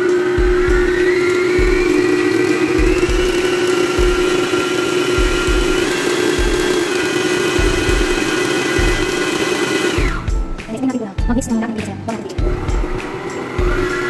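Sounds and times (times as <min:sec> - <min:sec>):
stand mixer motor hum: 0:00.0 - 0:10.5, 0:12.4 - 0:14.0.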